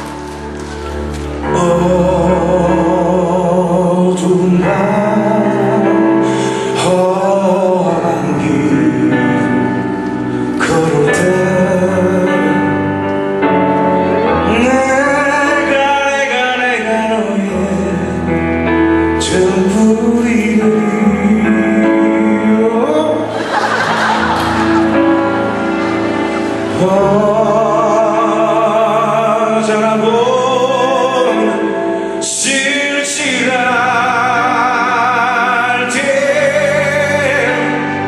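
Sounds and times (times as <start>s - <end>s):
live band playing a ballad: 0.0s - 38.0s
man singing with vibrato: 1.4s - 38.0s.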